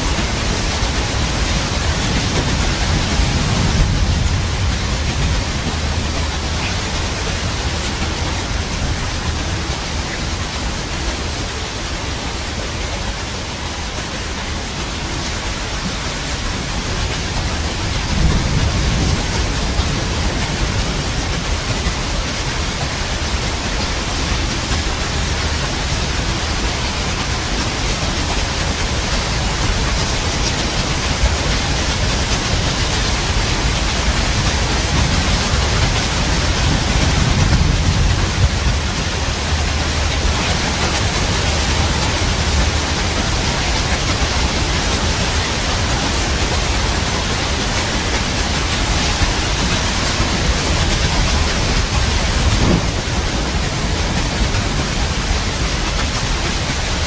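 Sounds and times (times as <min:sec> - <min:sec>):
rain hiss: 0:00.0 - 0:57.0
low thunder rumble: 0:00.1 - 0:11.2, 0:16.5 - 0:57.0.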